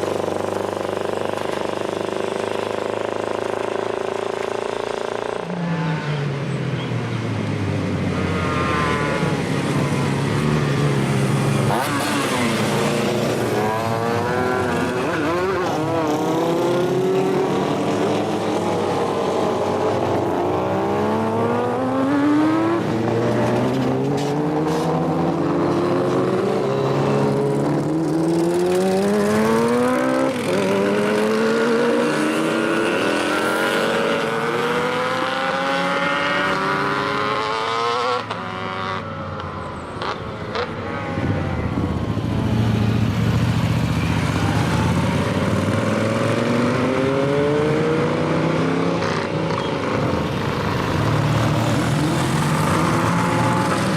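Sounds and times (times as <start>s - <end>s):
motorcycle engines revving: 0.0s - 53.9s.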